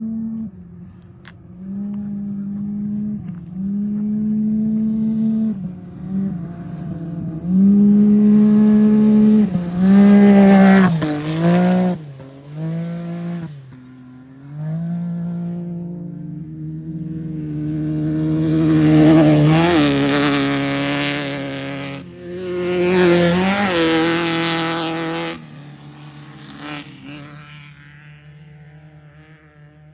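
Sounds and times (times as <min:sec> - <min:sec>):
racing engines revving: 0:00.0 - 0:29.9.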